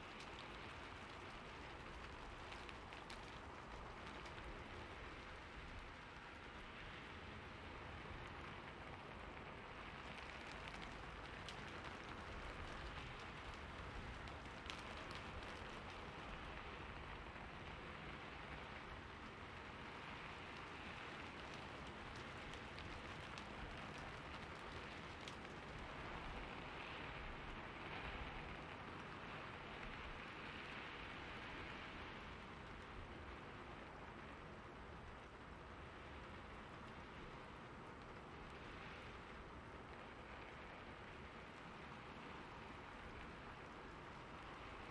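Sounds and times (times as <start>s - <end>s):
raindrops ticking on a surface: 0.0s - 44.9s
steady rainfall hiss: 0.0s - 44.9s.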